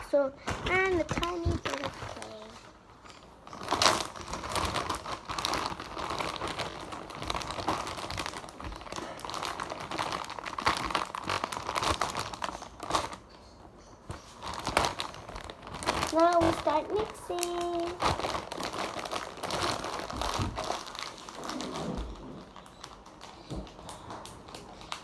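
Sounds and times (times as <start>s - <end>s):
slime squishing and crackling: 0.0s - 2.6s, 3.2s - 13.3s, 14.1s - 25.0s.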